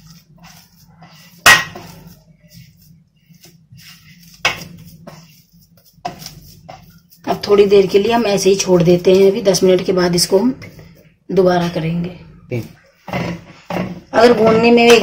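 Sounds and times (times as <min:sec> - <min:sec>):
hand kneading dough in bowl: 0:00.0 - 0:15.0.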